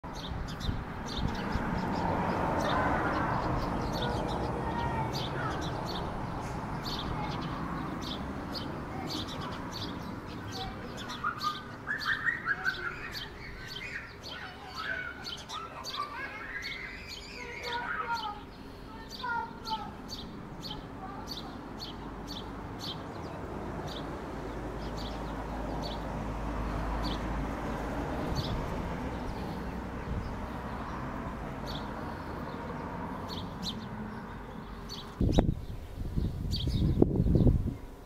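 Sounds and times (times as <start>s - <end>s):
sparrows chirping: 0.0s - 38.0s.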